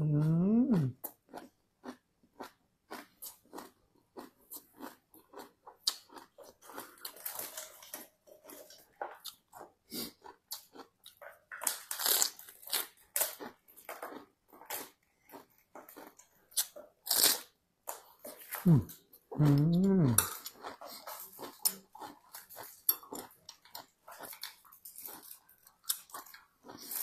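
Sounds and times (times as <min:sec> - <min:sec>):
chewing crisp raw vegetables: 0:00.0 - 0:27.0.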